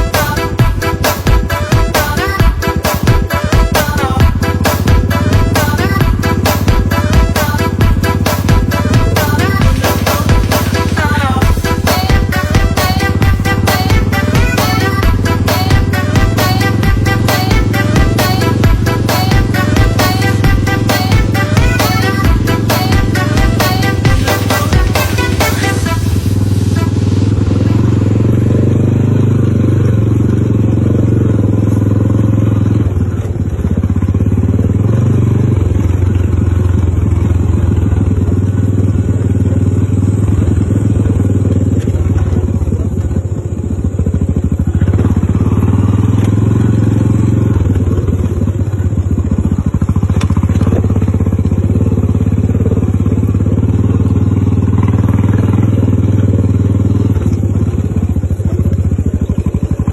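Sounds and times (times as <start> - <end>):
engine humming: 0.0 - 59.9.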